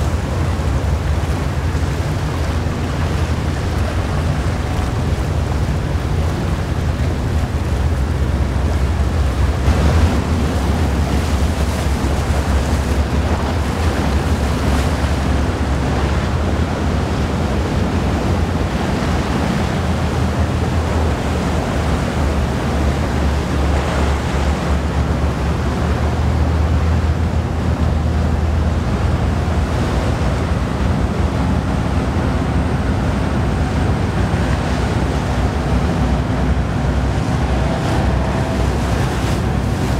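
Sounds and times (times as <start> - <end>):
rushing churned water: 0.0 - 39.9
tugboat diesel engines droning: 0.0 - 39.9.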